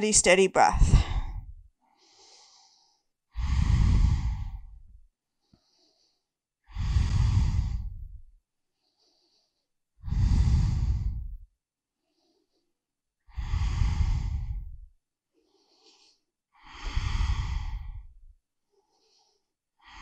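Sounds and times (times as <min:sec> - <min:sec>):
person breathing slowly: 0:00.8 - 0:20.0.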